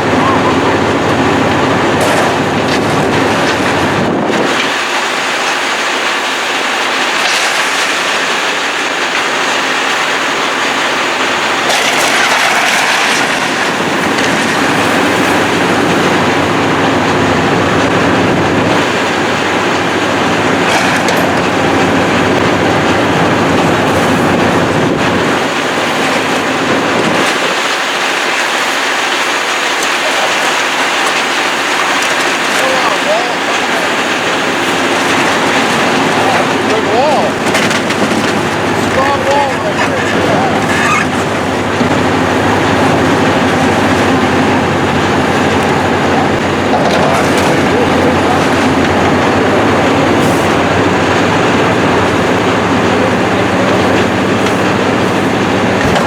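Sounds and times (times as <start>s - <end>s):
demolition machinery clatter and grinding: 0.0s - 56.0s.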